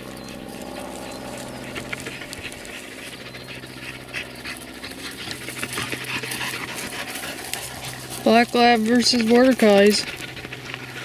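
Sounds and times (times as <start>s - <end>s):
dogs moving through dry grass: 0.0s - 11.0s
dogs panting: 0.0s - 11.0s
steady low hum: 0.0s - 11.0s.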